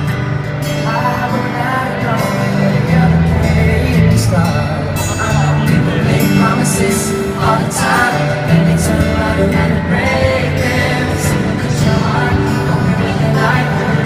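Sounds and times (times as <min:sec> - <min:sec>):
live pop band with singer: 0:00.0 - 0:14.0.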